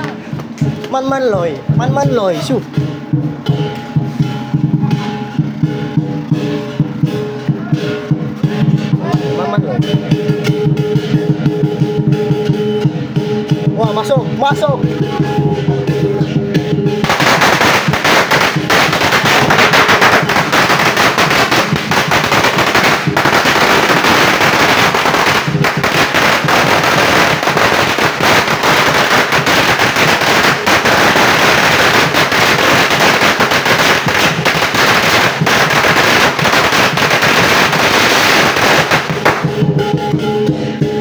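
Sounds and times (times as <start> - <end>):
firecrackers crackling: 0.0 - 16.0, 16.6 - 40.3.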